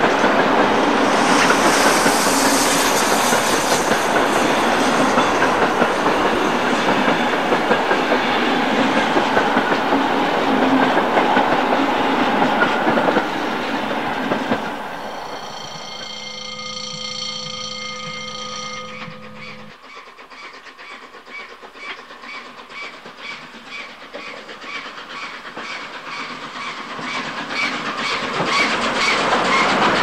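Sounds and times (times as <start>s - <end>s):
train wheels clattering over joints: 0.0s - 14.8s, 18.0s - 30.0s.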